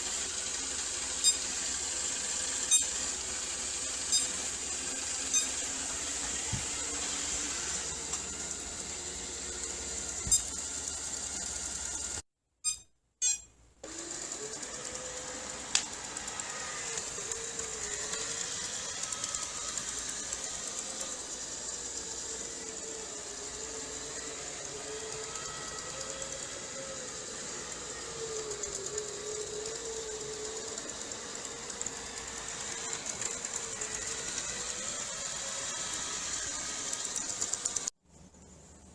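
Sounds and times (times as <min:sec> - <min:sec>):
robot vacuum cleaner running: 0:00.0 - 0:12.2, 0:13.8 - 0:38.0.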